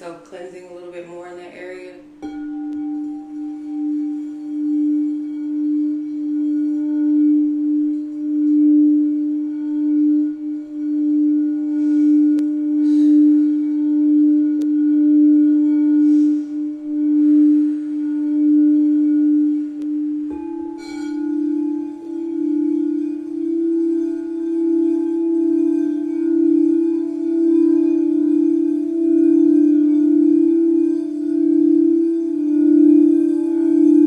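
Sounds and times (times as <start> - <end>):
singing bowl steady tone: 2.0 - 34.0
higher singing bowl tone: 2.2 - 34.0.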